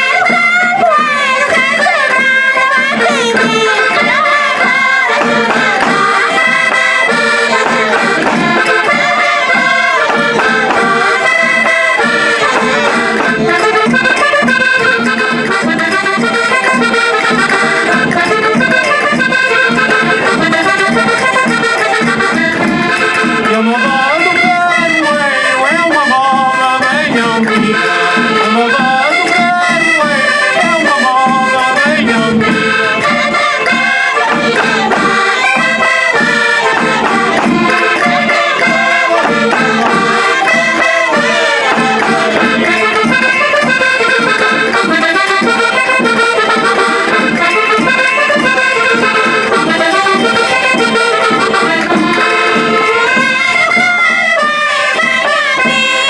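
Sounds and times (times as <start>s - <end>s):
folk-dance music with accordion: 0.0s - 56.0s.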